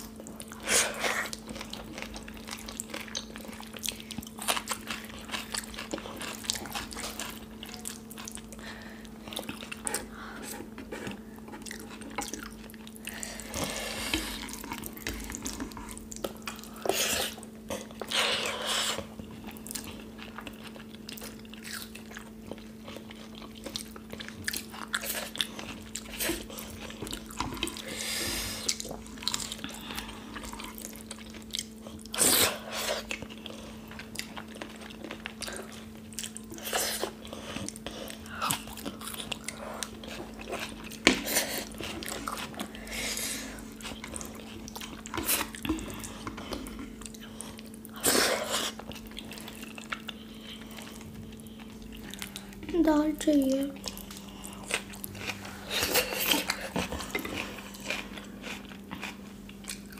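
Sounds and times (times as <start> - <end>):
people chewing food: 0.0 - 59.9
steady low hum: 0.0 - 59.9.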